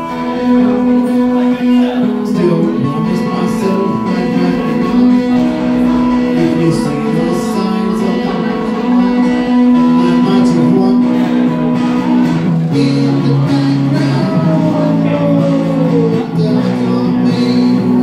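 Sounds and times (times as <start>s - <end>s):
guitar strumming: 0.0s - 18.0s
person singing: 0.0s - 18.0s.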